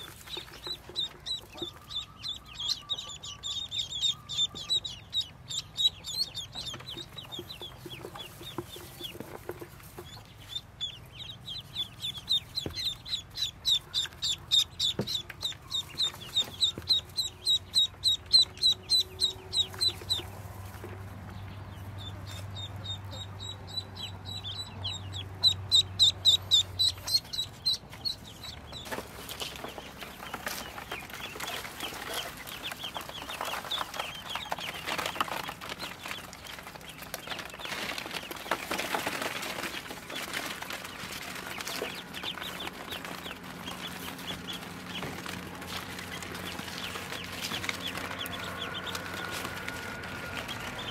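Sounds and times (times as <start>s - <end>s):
ducklings peeping: 0.0s - 50.9s.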